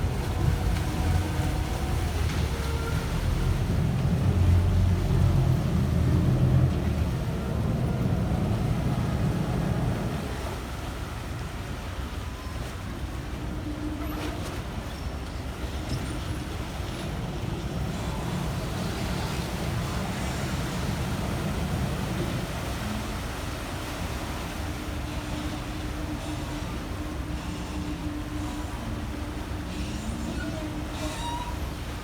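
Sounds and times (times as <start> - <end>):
boat engine rumble: 0.0 - 32.0.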